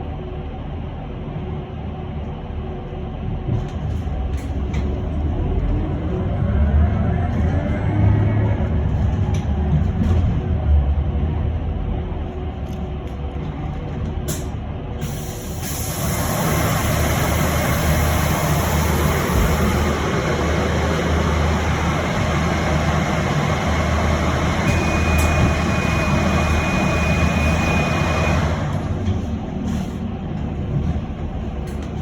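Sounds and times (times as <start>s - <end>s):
bus cabin hum: 0.0s - 32.0s
road and tyre noise: 3.5s - 32.0s.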